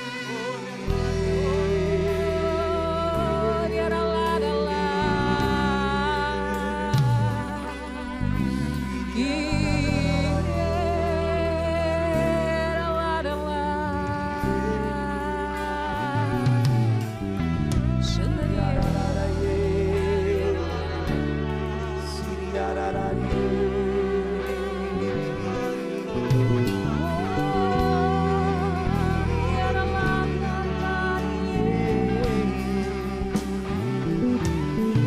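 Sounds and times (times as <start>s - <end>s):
guitar and keyboard chords: 0.0s - 35.0s
wordless singing: 0.0s - 35.0s.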